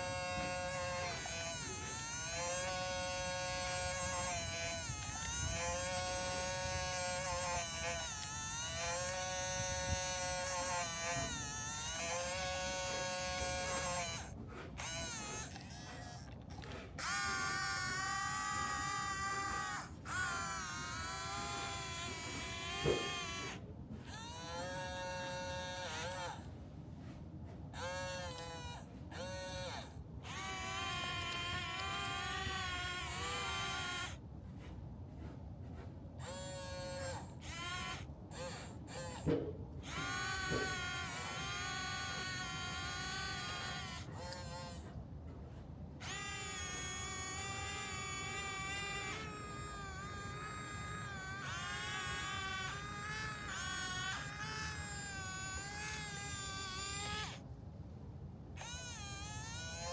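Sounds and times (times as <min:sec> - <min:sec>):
toy motors whining: 0:00.0 - 0:27.1, 0:27.7 - 0:34.2, 0:36.2 - 0:45.0, 0:46.0 - 0:57.4, 0:58.6 - 0:59.9.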